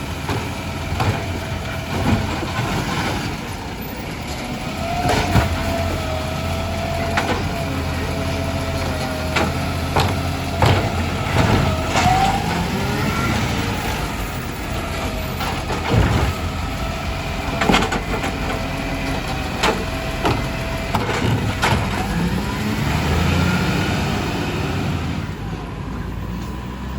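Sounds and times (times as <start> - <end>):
clunks and crunching of waste: 0.0 - 24.1
garbage truck engine hum: 0.0 - 26.9.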